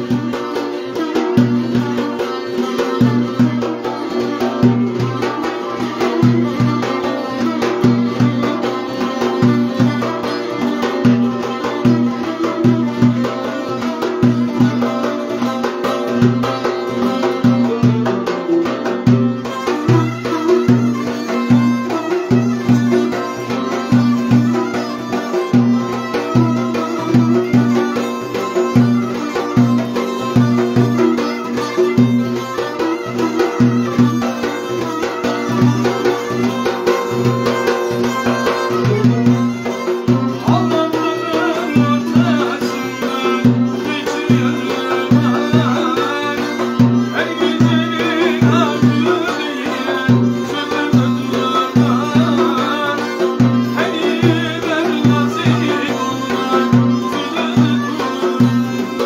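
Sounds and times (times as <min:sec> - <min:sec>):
folk dance tune on violin: 0:00.0 - 0:59.0
frame drum beating: 0:00.0 - 0:59.0
plucked string instrument: 0:00.0 - 0:59.0.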